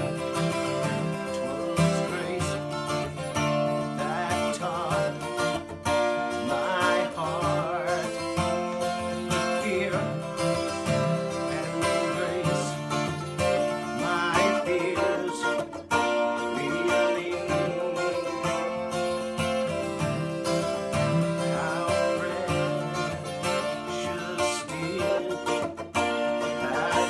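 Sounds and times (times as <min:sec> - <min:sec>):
guitar accompaniment: 0:00.0 - 0:27.0
man singing: 0:00.0 - 0:27.0.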